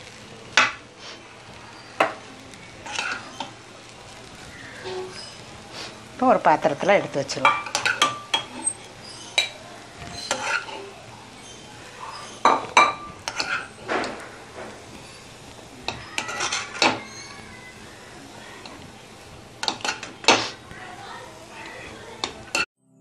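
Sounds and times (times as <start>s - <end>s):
spoon scraping a wok: 0.5s - 6.1s, 6.8s - 17.9s, 18.6s - 20.7s, 21.5s - 22.7s.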